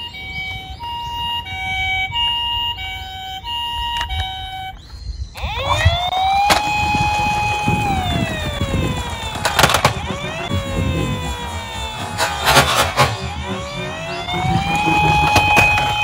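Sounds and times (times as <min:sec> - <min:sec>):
siren wail: 0:00.0 - 0:16.0
toy siren hi-lo call: 0:00.0 - 0:16.0.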